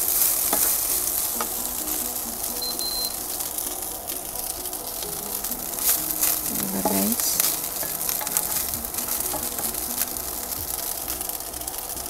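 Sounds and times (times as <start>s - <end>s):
fried rice sizzling in a wok: 0.0s - 12.0s
wooden spatula scraping a wok: 0.0s - 12.0s.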